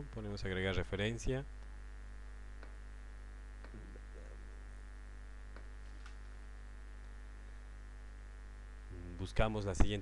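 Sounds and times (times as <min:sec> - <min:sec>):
buzzy mains hum: 0:00.0 - 0:10.0.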